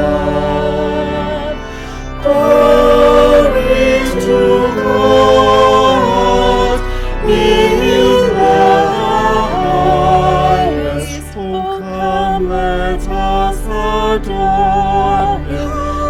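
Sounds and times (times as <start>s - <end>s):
slow sacred choral singing: 0.0s - 16.0s.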